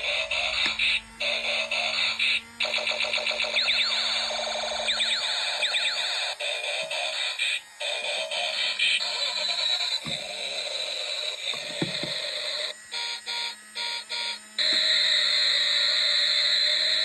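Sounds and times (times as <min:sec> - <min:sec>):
electronic buzzing whir: 0:00.0 - 0:17.0.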